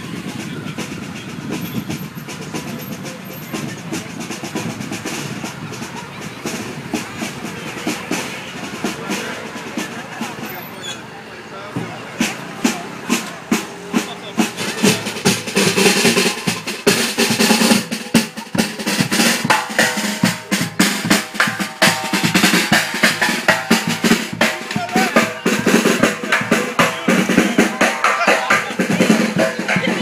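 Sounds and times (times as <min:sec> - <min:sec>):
marching bass drum: 0:00.0 - 0:10.5, 0:11.7 - 0:30.0
marching snare drum: 0:00.0 - 0:10.5, 0:11.7 - 0:30.0.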